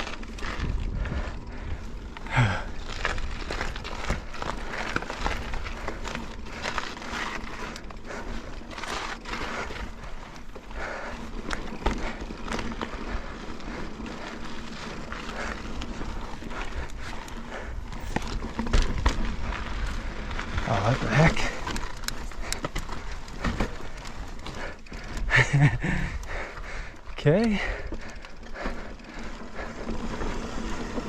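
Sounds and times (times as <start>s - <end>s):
bike rattling clicks and knocks: 0.0s - 31.0s
bike tyres rolling on rock: 0.0s - 31.0s.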